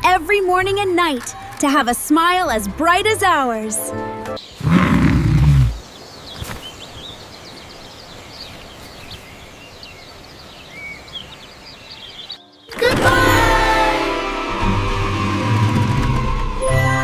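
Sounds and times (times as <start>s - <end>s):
outdoor ambient noise: 0.0s - 17.0s.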